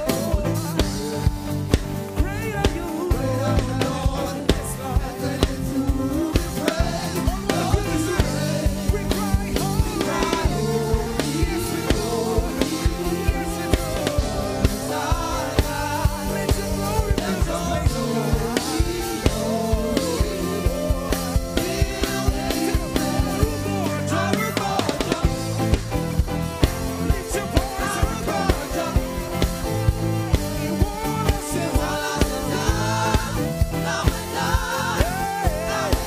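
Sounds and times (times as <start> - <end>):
band playing: 0.0 - 36.0
drum kit steady beat: 0.0 - 36.0
group of singers singing: 0.0 - 36.0.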